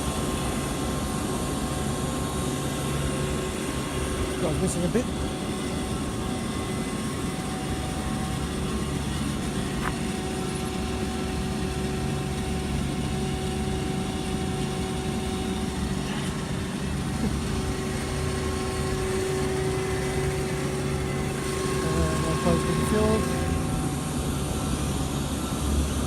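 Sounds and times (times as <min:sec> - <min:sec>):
engine idling with whine: 0:00.0 - 0:26.0.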